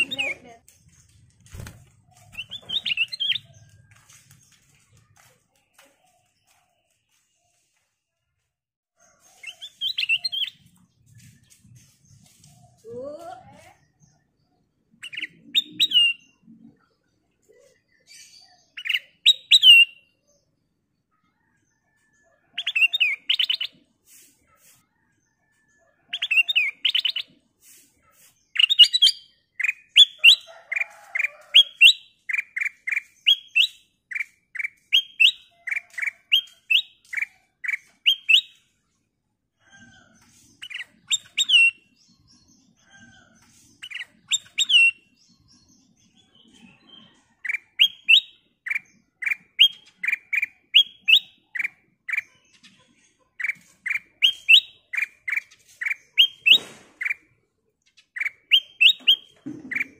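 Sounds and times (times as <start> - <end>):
bird chirping: 0.0 - 7.9, 9.1 - 23.8, 25.5 - 39.0, 39.6 - 59.9.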